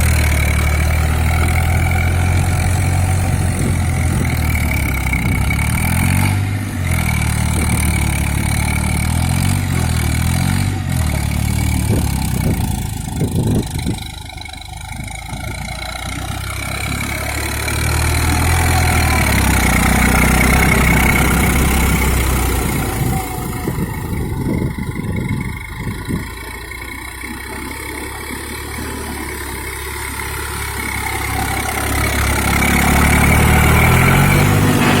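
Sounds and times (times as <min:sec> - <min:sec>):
tractor engine working under load: 0:00.0 - 0:35.0.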